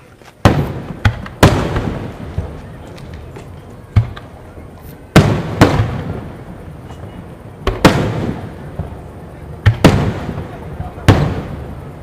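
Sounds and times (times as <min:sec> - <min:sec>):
fireworks booming with echo: 0:00.4 - 0:12.0.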